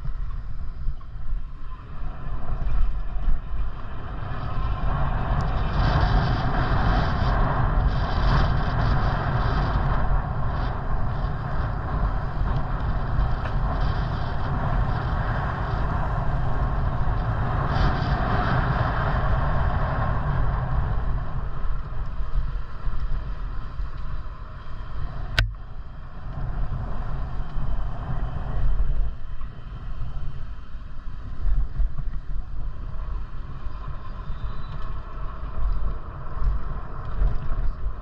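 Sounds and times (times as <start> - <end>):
bicycle rolling noise: 0.0 - 38.0
wind buffeting microphone: 0.0 - 38.0.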